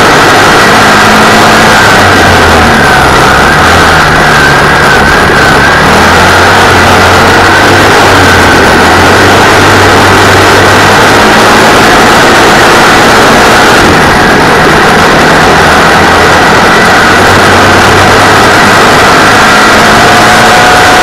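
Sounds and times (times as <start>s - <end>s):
racing buggy engine running hard: 0.0s - 21.0s.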